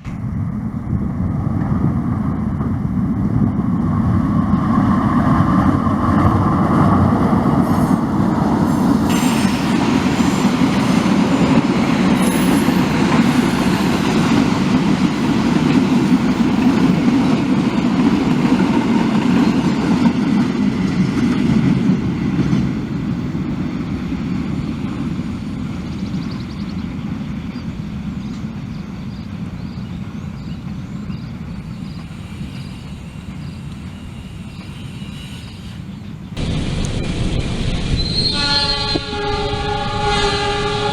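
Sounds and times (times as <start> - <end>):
train rumbling past: 0.0 - 40.9.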